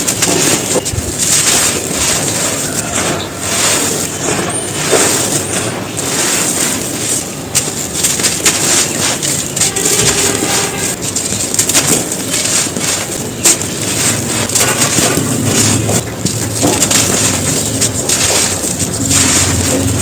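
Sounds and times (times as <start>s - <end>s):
bricks being crushed: 0.0s - 20.0s.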